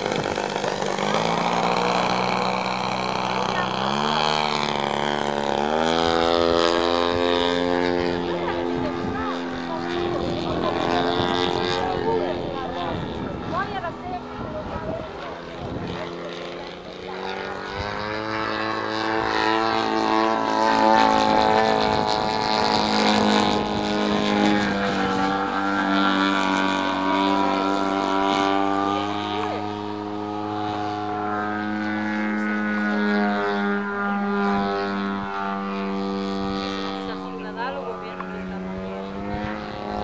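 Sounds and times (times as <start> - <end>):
model airplane engine buzzing: 0.0 - 40.0.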